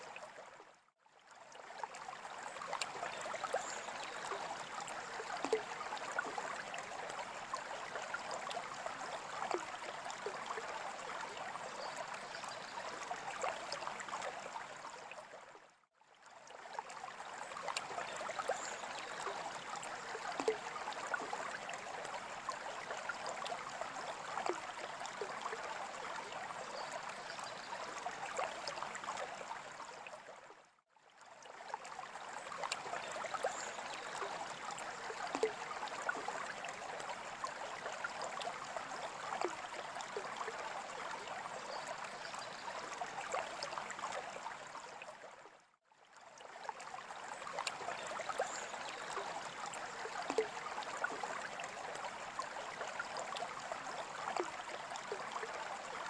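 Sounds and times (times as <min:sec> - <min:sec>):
water splashes and drips: 0:00.0 - 0:56.0.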